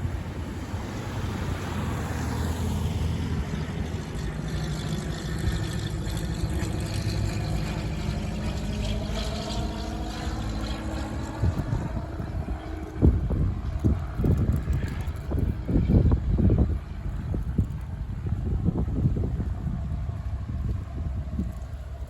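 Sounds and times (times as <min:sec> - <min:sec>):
airplane engine droning overhead: 0:00.0 - 0:22.0
wind rumbling on microphone: 0:00.0 - 0:22.0.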